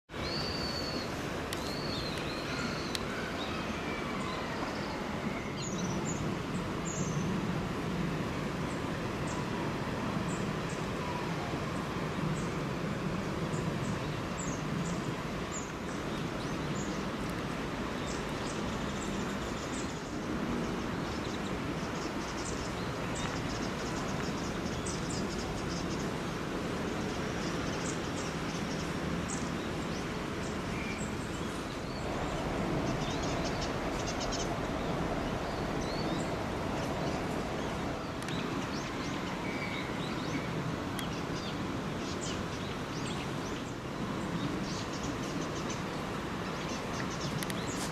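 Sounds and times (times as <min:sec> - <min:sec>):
background hiss and rumble: 0:00.1 - 0:47.9.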